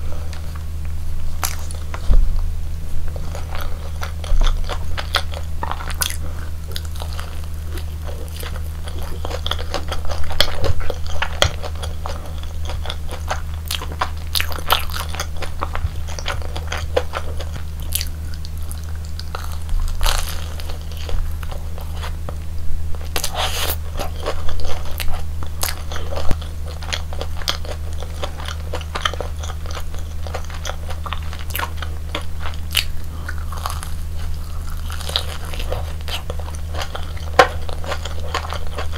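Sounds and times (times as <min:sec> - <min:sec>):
chewing crunchy fried food: 0:00.0 - 0:02.1, 0:03.0 - 0:38.9
steady low hum: 0:00.0 - 0:38.9.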